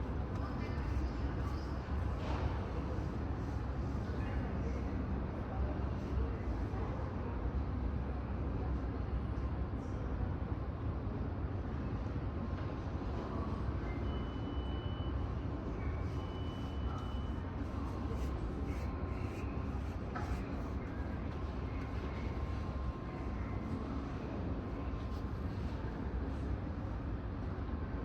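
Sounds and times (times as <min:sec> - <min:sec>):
aircraft and machinery rumble: 0:00.0 - 0:28.0.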